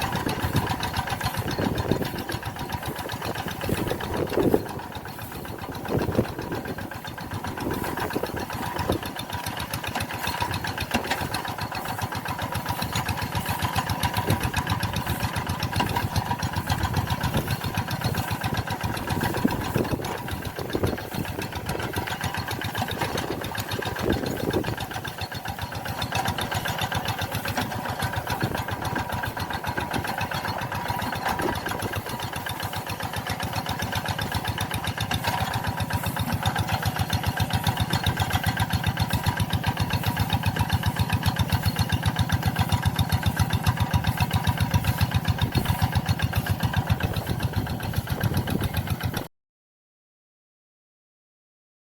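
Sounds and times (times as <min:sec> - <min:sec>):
tractor engine running: 0:00.0 - 0:49.3.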